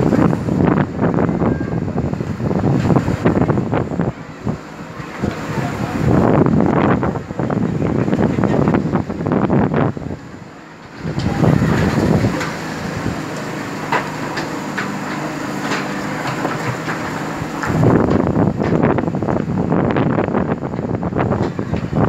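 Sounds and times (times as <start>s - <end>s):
diesel engine running: 0.0s - 22.0s
wind buffeting microphone: 0.0s - 22.0s.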